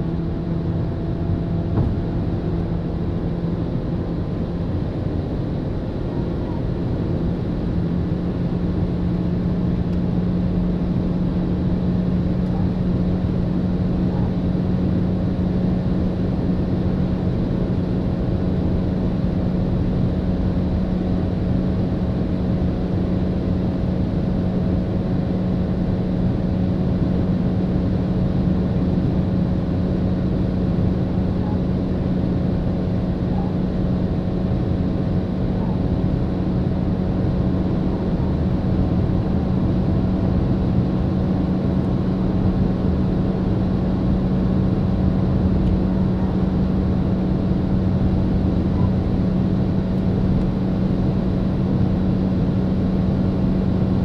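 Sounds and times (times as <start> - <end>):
car engine droning: 0.0 - 54.0
wind and tyre noise: 0.0 - 54.0.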